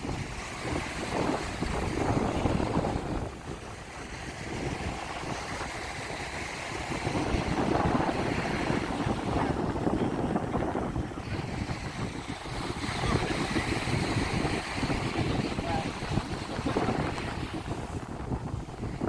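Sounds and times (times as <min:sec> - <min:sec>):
breaking surf: 0:00.0 - 0:19.0
wind buffeting microphone: 0:00.0 - 0:19.0.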